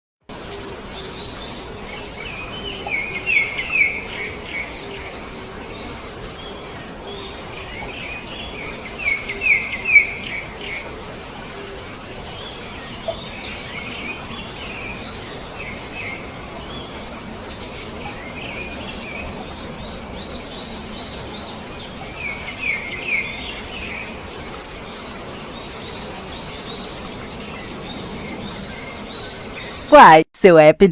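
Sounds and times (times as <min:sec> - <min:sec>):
steady outdoor hiss: 0:00.3 - 0:30.9.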